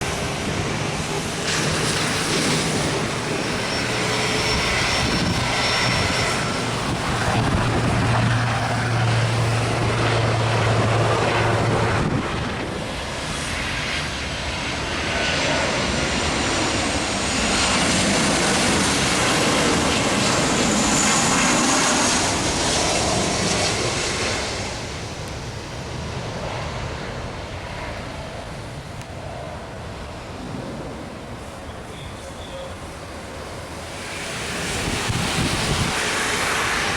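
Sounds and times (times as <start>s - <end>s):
airliner engines running: 0.0s - 36.9s
high engine whine: 0.0s - 36.9s.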